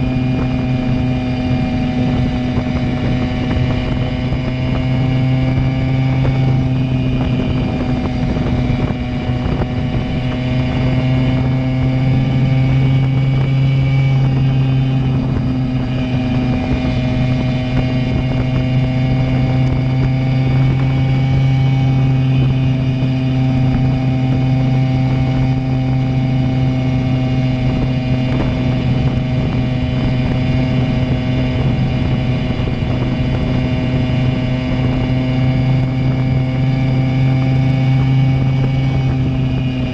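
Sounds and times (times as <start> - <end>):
two-stroke moped engine running: 0.0 - 39.9.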